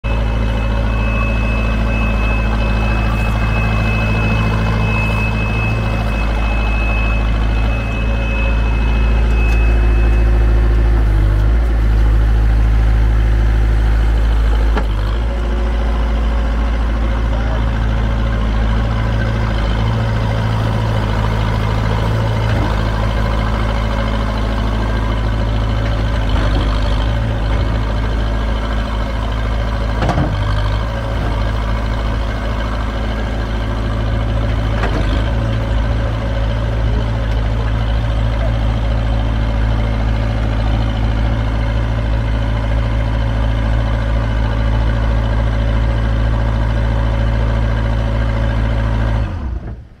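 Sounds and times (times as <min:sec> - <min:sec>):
diesel engine idling: 0:00.0 - 0:50.0.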